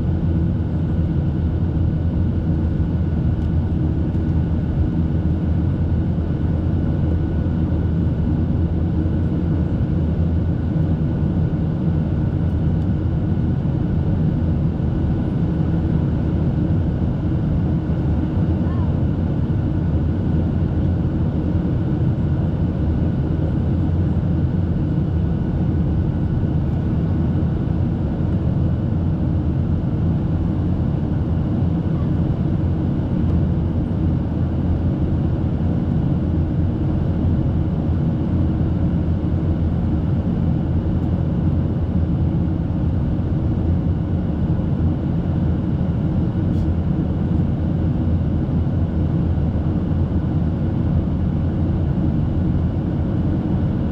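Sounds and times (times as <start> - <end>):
jet engine cabin drone: 0.0 - 53.9.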